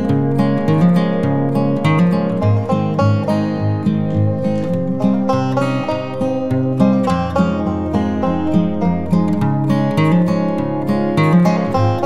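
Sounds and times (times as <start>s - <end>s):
lively plucked-string tune: 0.0s - 12.0s
steady bass beat: 0.0s - 12.0s.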